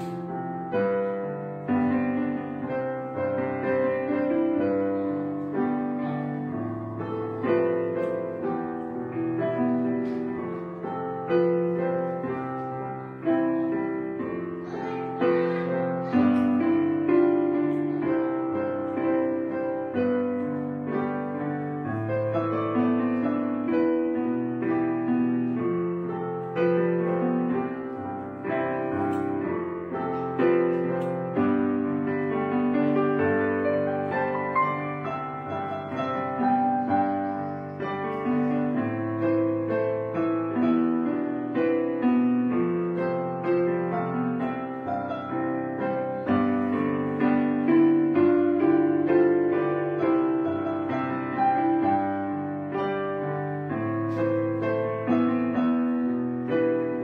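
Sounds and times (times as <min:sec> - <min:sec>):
slow gentle piano music: 0:00.0 - 0:57.0.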